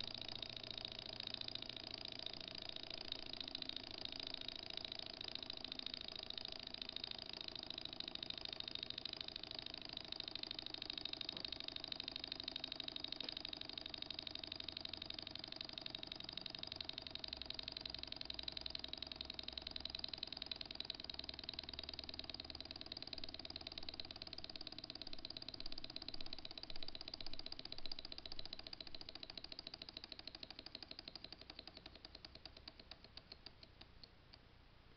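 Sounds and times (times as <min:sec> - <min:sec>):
model engine clattering: 0:00.0 - 0:33.3.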